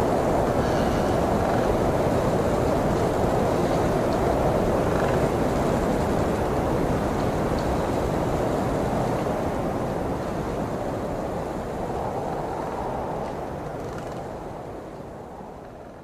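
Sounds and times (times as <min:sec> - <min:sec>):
blizzard wind rushing: 0:00.0 - 0:16.0.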